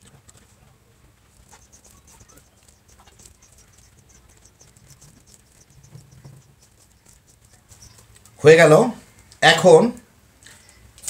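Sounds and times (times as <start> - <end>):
dried chillies crackling: 0.0 - 9.4.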